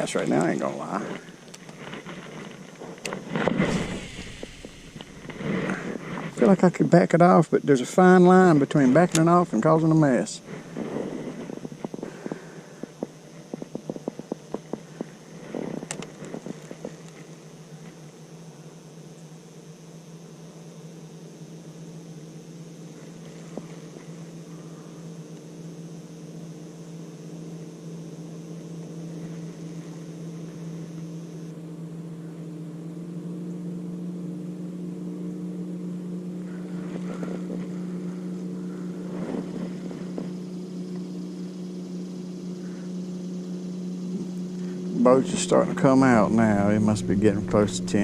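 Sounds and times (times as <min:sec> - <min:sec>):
motorboat engine humming: 0:00.0 - 0:07.1, 0:08.2 - 0:18.8, 0:21.9 - 0:48.0.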